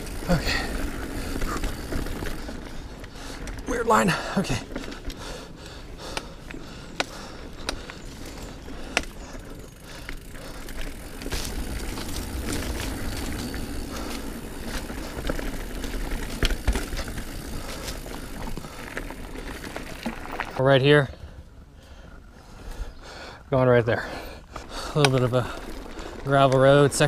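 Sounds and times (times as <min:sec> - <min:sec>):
bike clicks and rattles: 0:00.0 - 0:20.6, 0:24.4 - 0:27.0
bike tyre noise: 0:00.0 - 0:20.7, 0:23.9 - 0:27.0.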